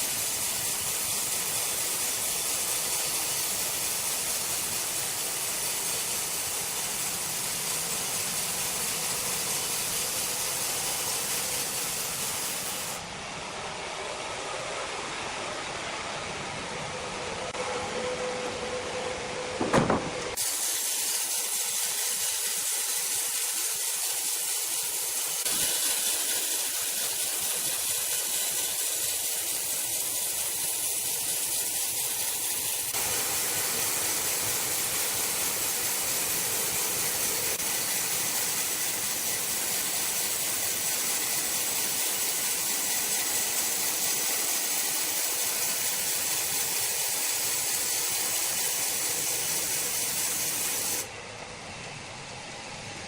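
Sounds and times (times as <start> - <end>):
steady hissing noise: 0.0 - 53.0.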